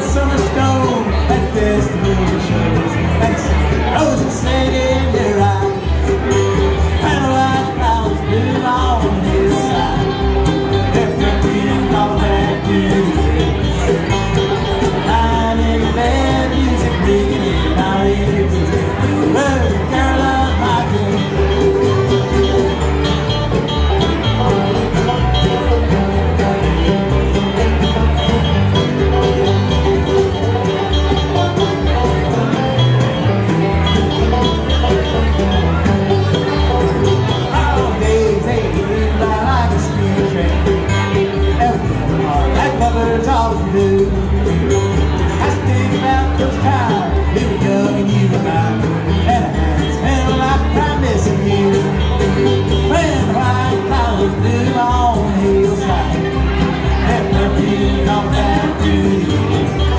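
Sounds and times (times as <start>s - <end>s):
person singing: 0.0s - 23.4s, 24.3s - 59.9s
acoustic guitar: 0.0s - 59.9s
banjo: 0.0s - 59.9s
bluegrass band playing: 0.0s - 59.9s
mandolin: 0.0s - 59.9s
upright bass thumping: 0.0s - 59.9s.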